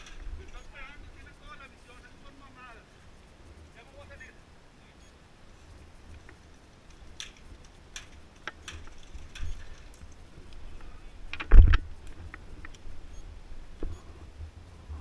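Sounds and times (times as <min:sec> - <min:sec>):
gear clicking and rattling: 0:00.0 - 0:04.3, 0:05.5 - 0:14.0.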